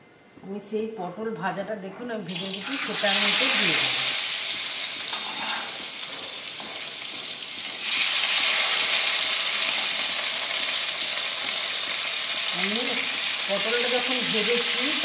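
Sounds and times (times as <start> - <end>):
vegetables sizzling in hot oil: 2.3 - 15.0.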